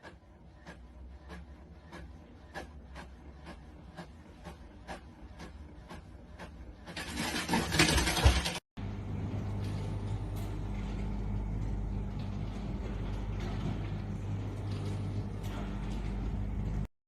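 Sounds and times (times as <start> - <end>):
low mechanical hum: 0.0 - 16.9.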